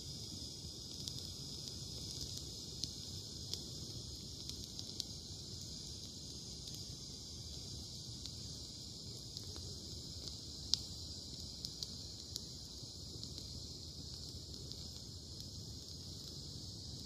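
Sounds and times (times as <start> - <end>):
bonfire crackling and popping: 0.0 - 17.0
crickets chirring: 0.0 - 17.0.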